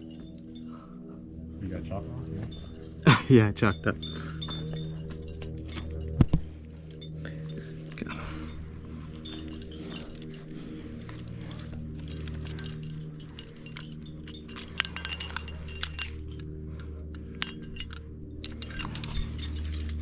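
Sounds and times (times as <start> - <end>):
metal carabiners clinking: 0.0 - 20.0
steady low hum: 0.0 - 20.0.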